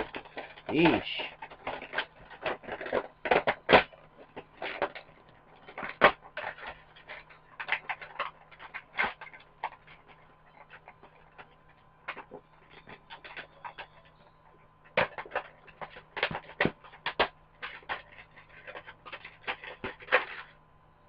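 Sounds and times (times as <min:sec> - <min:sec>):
plastic packaging clicks and crinkles: 0:00.0 - 0:20.6.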